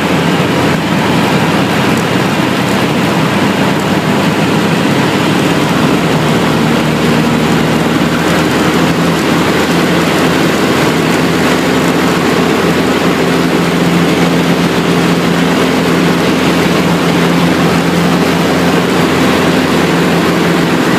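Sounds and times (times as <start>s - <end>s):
aircraft engine and propeller: 0.0s - 20.9s.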